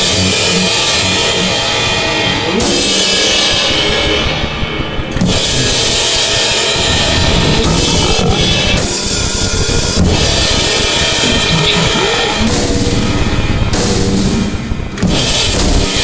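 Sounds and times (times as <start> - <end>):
harsh distorted noise music: 0.0 - 16.0.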